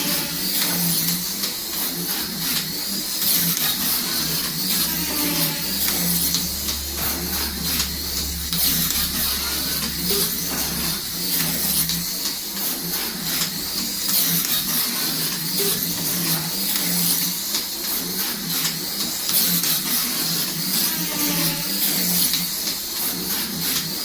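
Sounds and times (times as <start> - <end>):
slot car electric motor whining: 0.0 - 24.0.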